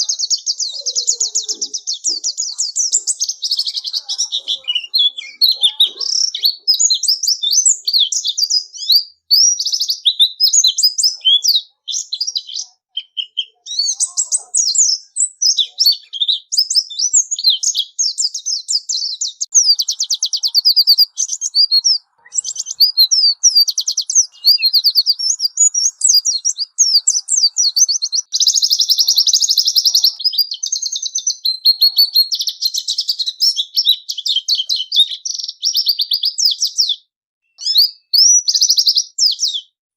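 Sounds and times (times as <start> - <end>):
bird twittering and trilling: 0.0 - 39.8.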